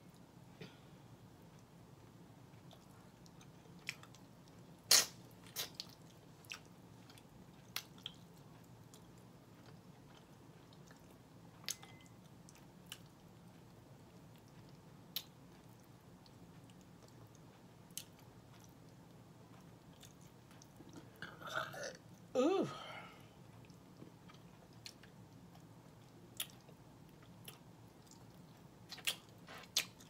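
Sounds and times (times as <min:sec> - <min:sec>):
person chewing meat: 0:02.5 - 0:21.2, 0:23.5 - 0:30.0.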